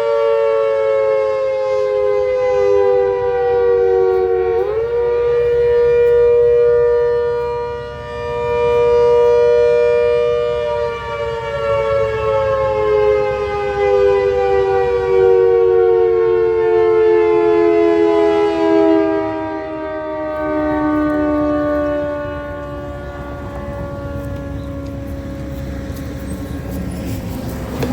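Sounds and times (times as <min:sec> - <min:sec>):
two-tone civil defense siren: 0:00.0 - 0:27.9.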